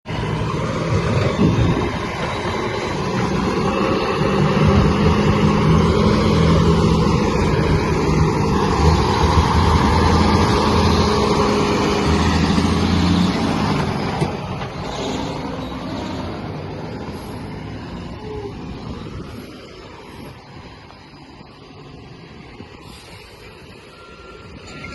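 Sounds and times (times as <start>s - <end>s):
truck engine humming: 0.1s - 24.9s.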